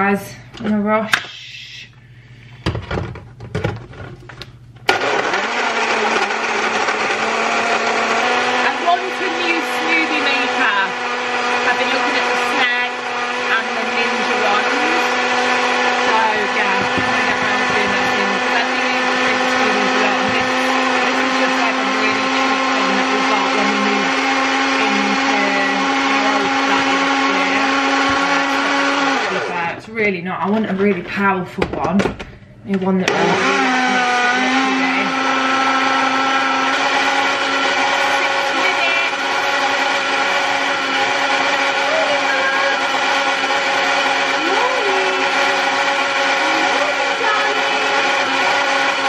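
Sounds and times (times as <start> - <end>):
blender motor running: 4.9 - 29.8, 33.0 - 49.0.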